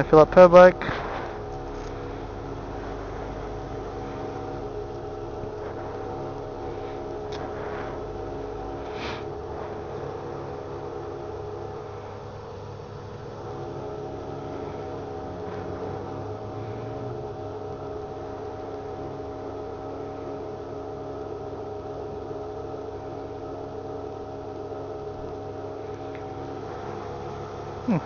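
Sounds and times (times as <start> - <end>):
fuel pump humming: 0.0 - 28.0.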